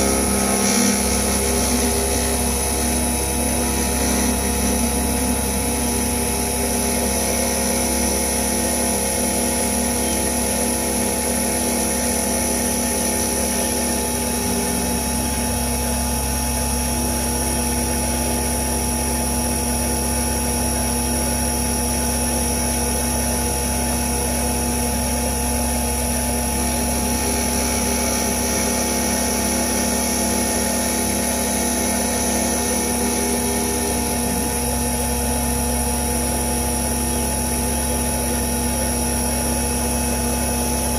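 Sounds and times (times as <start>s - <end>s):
milling machine spindle whine: 0.0s - 40.9s.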